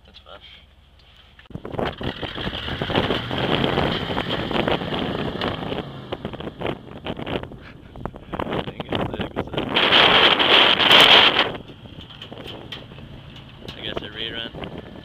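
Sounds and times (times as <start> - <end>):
pickup engine running hard: 1.5 - 15.0
wind buffeting microphone: 1.5 - 15.0.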